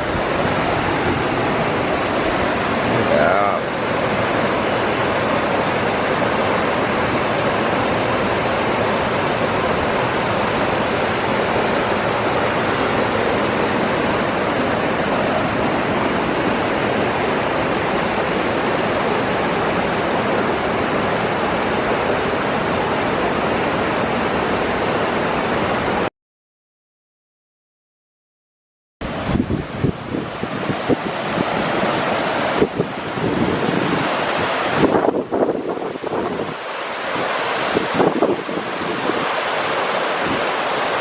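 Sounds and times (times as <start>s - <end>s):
rushing water: 0.0s - 26.1s, 29.0s - 41.0s.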